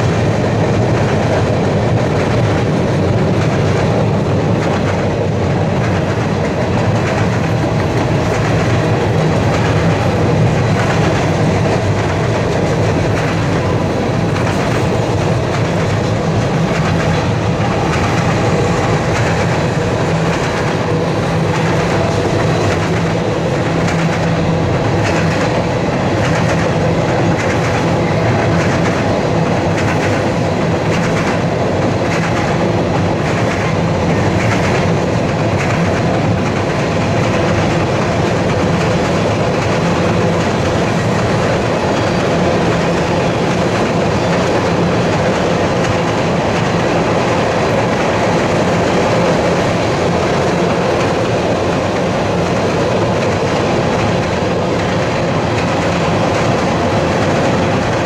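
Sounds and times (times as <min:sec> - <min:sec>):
train rumbling on steel trestle: 0:00.0 - 0:58.0
wheels clickety-clack over rail: 0:00.0 - 0:58.0.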